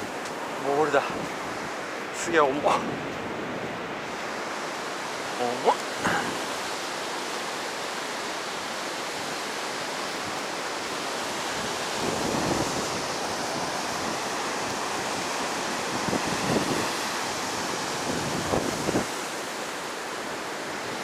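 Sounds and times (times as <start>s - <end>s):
heavy surf breaking on beach: 0.0s - 21.0s.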